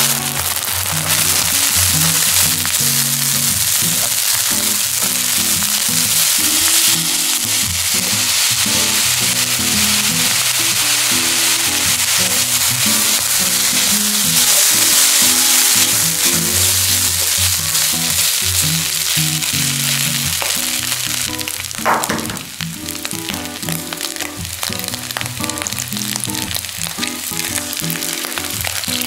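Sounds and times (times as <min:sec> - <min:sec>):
rice frying in oil: 0:00.0 - 0:29.0
soy sauce bubbling in pan: 0:00.0 - 0:29.0.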